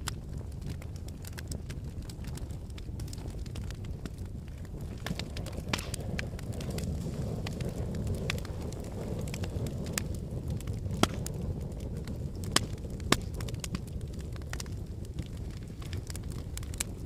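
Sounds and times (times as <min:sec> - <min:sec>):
fire crackling and popping: 0:00.0 - 0:17.0
wood fire burning: 0:00.0 - 0:17.0.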